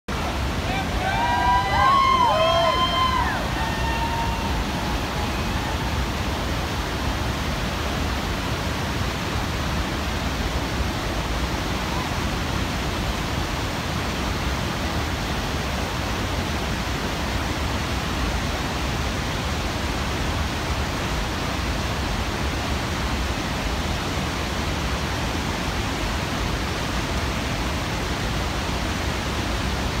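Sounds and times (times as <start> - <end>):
whitewater rapids rushing: 0.1 - 30.0.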